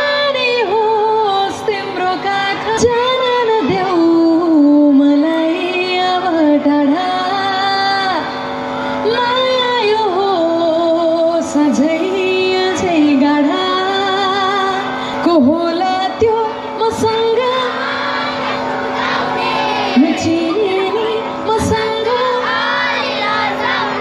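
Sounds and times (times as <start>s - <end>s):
woman singing through pa system: 0.0s - 8.2s, 9.0s - 24.0s.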